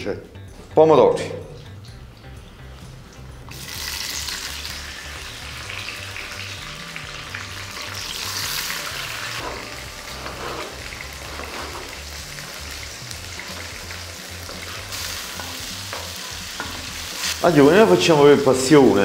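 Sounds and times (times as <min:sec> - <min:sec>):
tomatoes sizzling in oil: 0:02.0 - 0:19.0.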